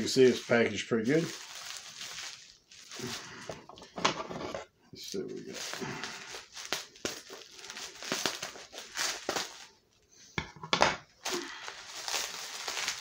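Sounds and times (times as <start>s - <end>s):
bubble wrap rustling and crinkling: 0.0s - 4.0s, 5.0s - 10.1s, 11.0s - 13.0s.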